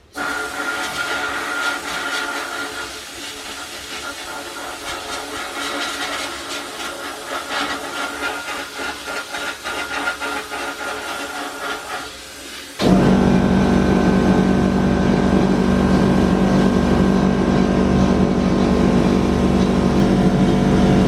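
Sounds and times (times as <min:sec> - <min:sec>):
air blast gun hissing: 0:00.0 - 0:17.2.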